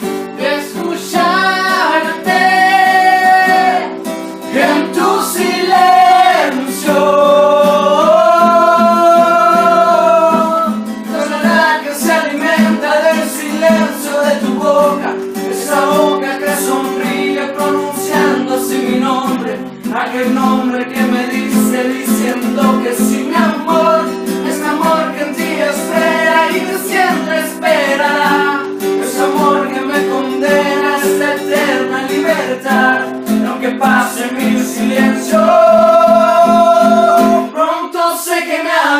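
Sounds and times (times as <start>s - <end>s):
guitar ballad with held melody: 0.0s - 37.6s.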